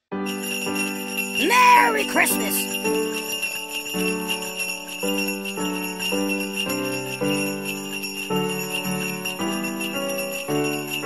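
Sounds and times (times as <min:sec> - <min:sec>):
simple melody: 0:00.1 - 0:11.0
sleigh bells shaking: 0:00.2 - 0:11.0.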